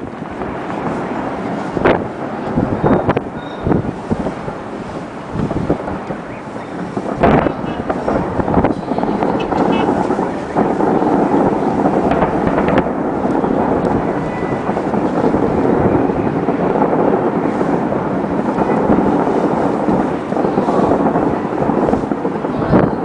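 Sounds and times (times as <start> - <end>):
fireworks and firecrackers crackling: 0.0 - 23.0.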